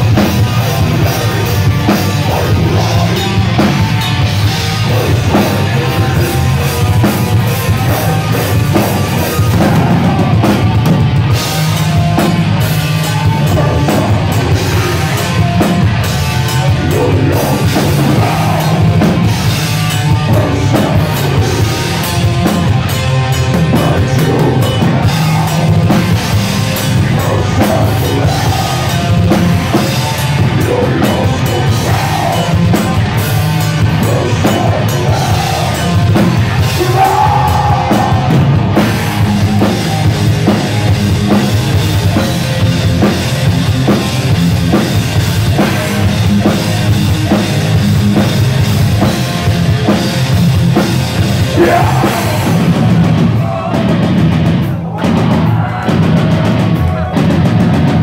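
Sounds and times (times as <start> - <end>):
distorted electric guitars: 0.0 - 58.0
drum kit: 0.0 - 58.0.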